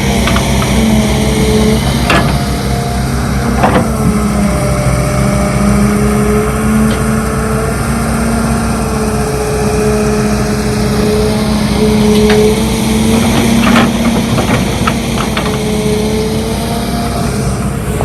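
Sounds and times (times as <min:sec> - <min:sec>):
diesel machinery engine running: 0:00.0 - 0:18.0.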